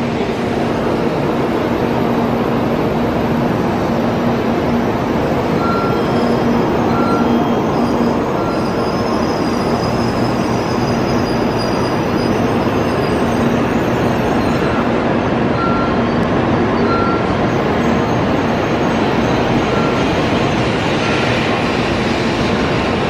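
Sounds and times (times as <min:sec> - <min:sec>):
train passing rumble: 0:00.0 - 0:23.0.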